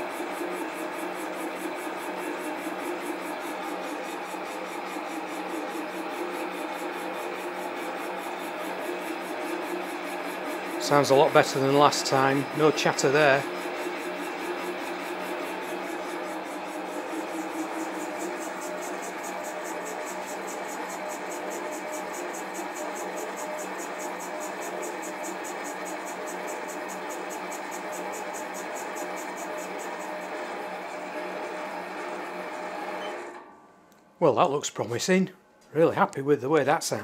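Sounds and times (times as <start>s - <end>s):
lathe humming and whirring: 0.0s - 33.4s.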